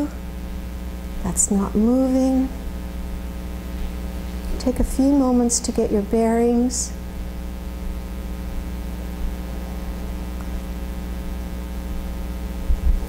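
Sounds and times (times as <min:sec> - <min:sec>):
electrical mains hum with hiss: 0:00.0 - 0:13.0.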